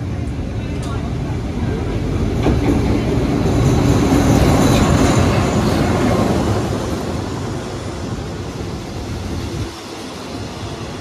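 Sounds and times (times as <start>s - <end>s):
diesel locomotive engine rumble: 0.0s - 11.0s
train wheels on rails: 0.0s - 11.0s.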